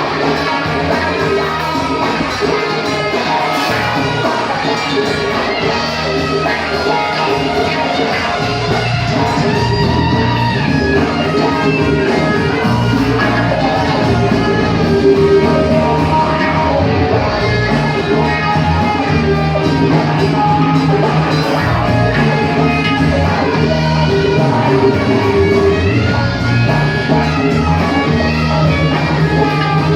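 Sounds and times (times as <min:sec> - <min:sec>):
rock band playing live: 0:00.0 - 0:29.9.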